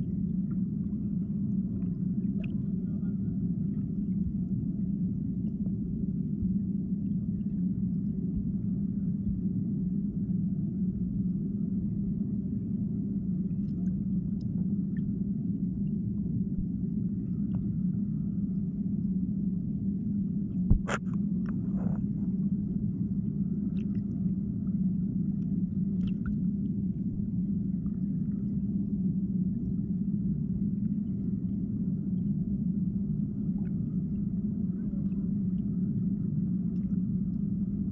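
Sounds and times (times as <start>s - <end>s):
muffled underwater river rumble: 0.0s - 37.9s.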